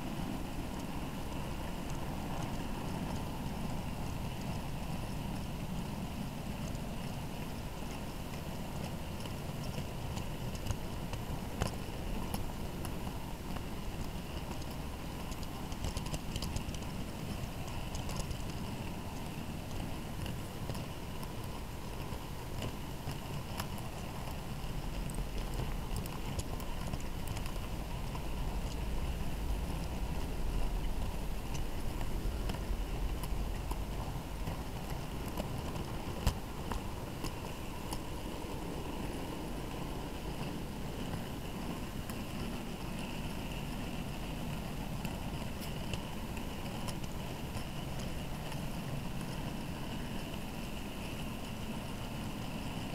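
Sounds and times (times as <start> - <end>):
wheels clicking over rail joints: 0.6 - 52.9
model train wagons rumbling: 0.7 - 52.9.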